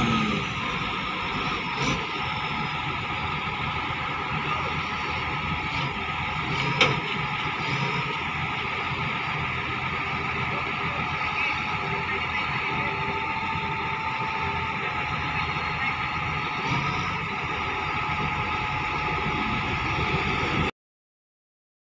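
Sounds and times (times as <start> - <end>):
diesel engine running steadily: 0.0 - 20.7.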